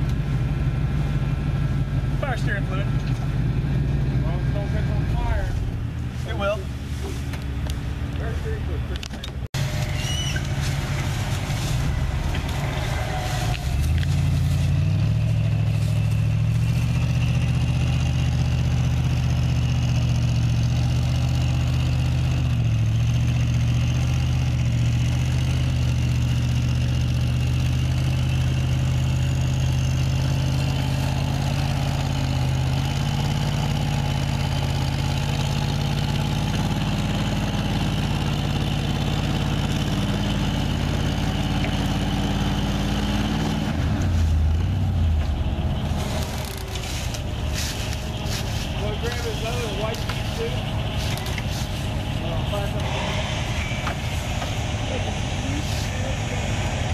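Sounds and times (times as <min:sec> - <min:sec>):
pickup truck engine running: 0:00.0 - 0:56.9.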